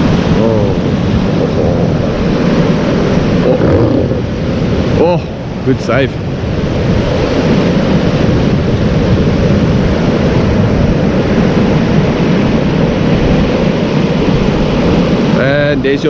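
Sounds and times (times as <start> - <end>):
breaking surf: 0.0 - 16.0
outboard motors running: 0.0 - 16.0
wind buffeting microphone: 0.0 - 16.0.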